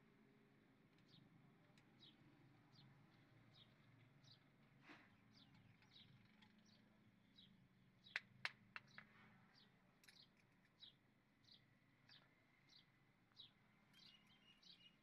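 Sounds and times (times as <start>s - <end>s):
faint bird chirping: 1.9s - 8.2s, 8.8s - 15.0s.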